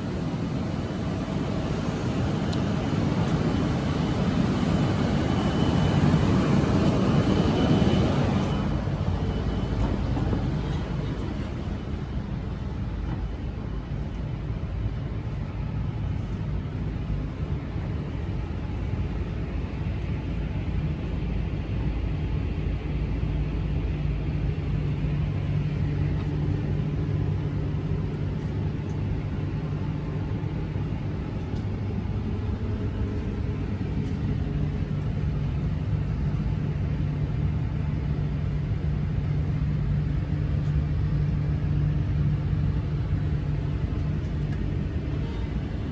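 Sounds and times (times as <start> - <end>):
train rumble: 0.0 - 45.9.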